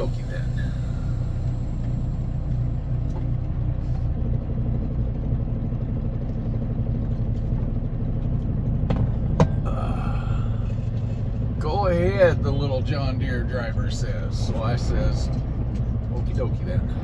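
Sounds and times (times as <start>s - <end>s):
truck diesel engine idling: 0.0s - 17.0s.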